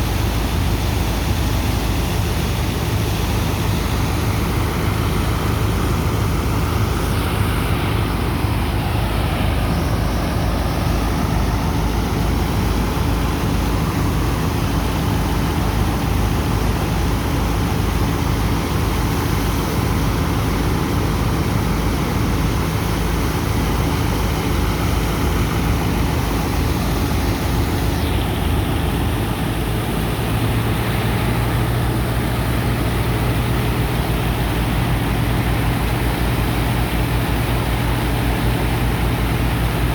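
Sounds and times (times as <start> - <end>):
heavy engine drone: 0.0 - 39.9
sand pump rushing: 0.0 - 39.9.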